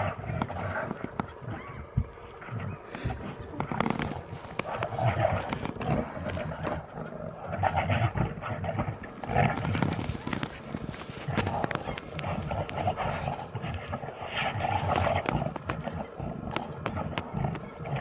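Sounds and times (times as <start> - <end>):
bears roaring and growling: 0.0 - 18.0.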